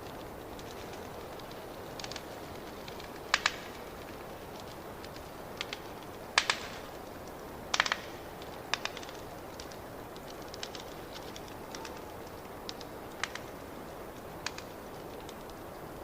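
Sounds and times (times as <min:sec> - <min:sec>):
steady hiss: 0:00.0 - 0:16.0
wood fire crackling and popping: 0:00.0 - 0:16.0.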